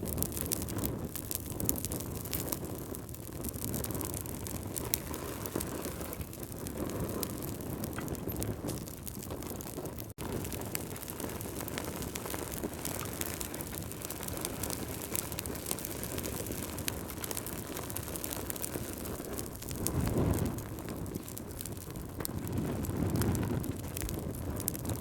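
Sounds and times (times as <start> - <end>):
fire flame rushing: 0.0 - 25.0
logs crackling and popping: 0.0 - 25.0.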